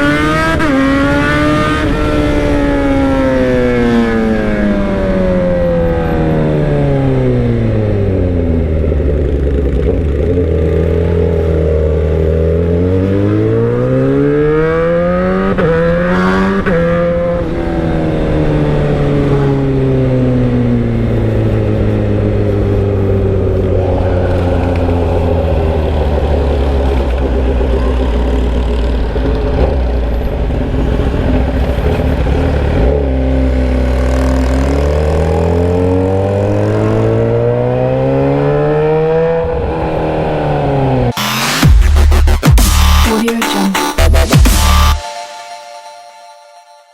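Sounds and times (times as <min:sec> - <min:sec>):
unmuffled motorcycle engine revving: 0:00.0 - 0:43.1.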